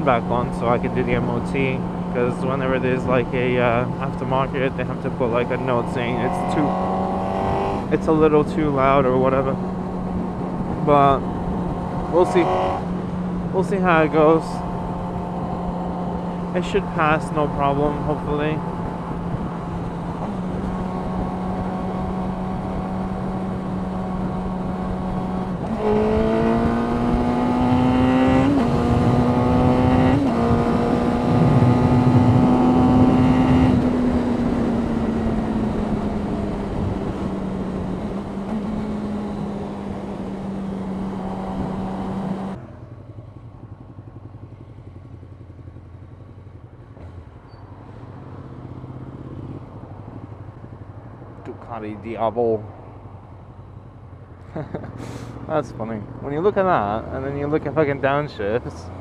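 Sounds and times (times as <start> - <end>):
motorcycle engine running: 0.0 - 51.6.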